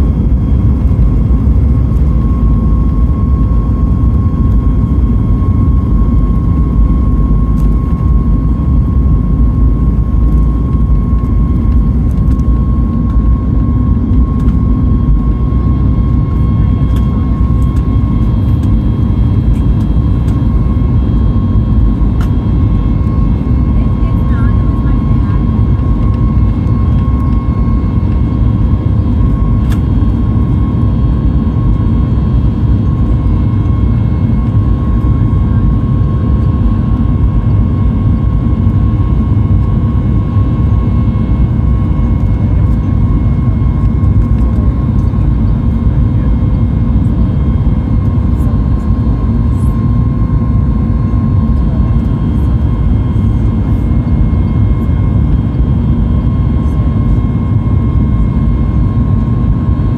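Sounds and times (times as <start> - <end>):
constant engine whine: 0.0 - 59.9
jet engines rumbling in cabin: 0.0 - 59.9.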